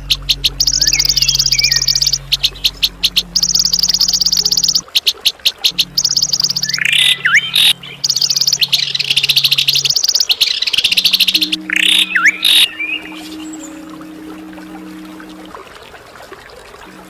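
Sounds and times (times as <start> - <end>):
songbirds calling: 0.0 - 15.8
low steady hum: 0.0 - 17.0.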